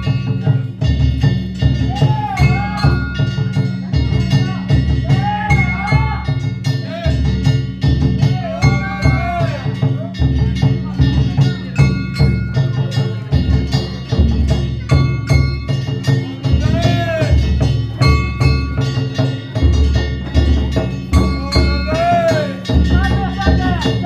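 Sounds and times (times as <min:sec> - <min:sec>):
metal hand gongs clanging: 0:00.0 - 0:24.0
taiko drum beating: 0:00.0 - 0:24.0.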